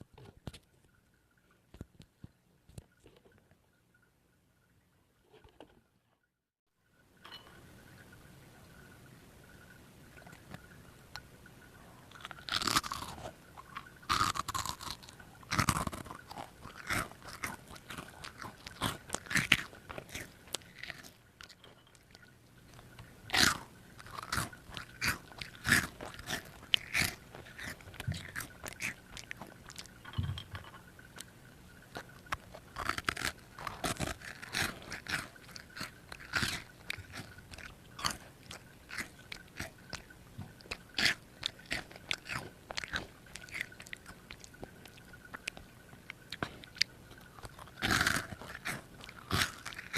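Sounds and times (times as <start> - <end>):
child chewing crunchy snack: 9.6 - 49.9.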